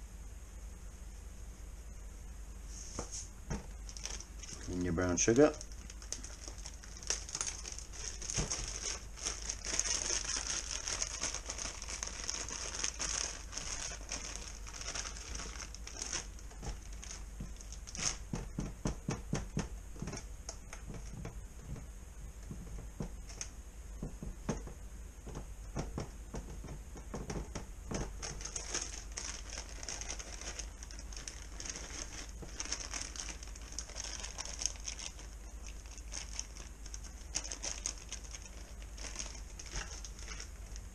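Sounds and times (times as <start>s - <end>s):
plastic bag crinkling: 3.5s - 21.8s, 25.3s - 40.9s.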